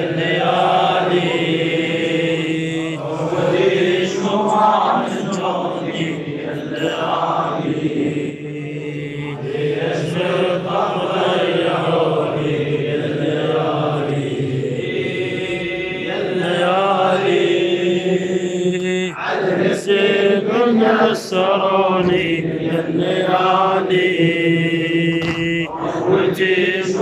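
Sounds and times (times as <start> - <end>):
man chanting melodically: 0.1 - 12.5, 16.2 - 27.0.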